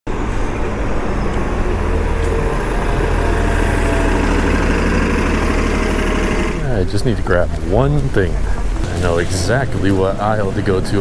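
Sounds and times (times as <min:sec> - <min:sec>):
bus engine rumble: 0:00.1 - 0:11.0.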